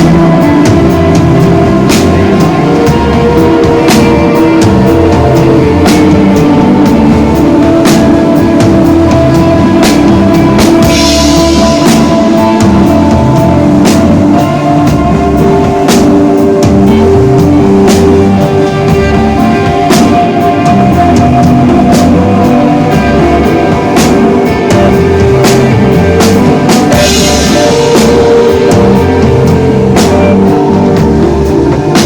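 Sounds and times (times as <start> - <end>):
cymbal crash: 0.0 - 32.0
rock band playing live: 0.0 - 32.0.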